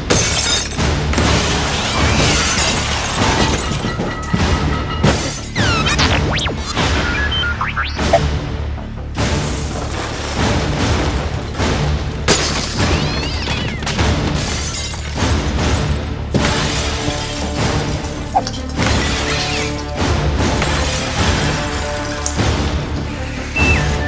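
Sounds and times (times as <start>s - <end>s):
sudden crashes and impacts: 0.0s - 8.5s, 9.2s - 24.0s
background music: 0.0s - 24.0s.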